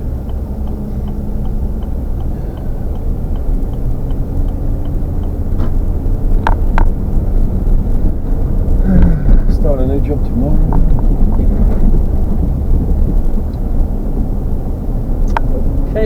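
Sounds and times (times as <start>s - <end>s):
car engine and road rumble: 0.0s - 16.0s
faint ticking: 0.0s - 16.0s.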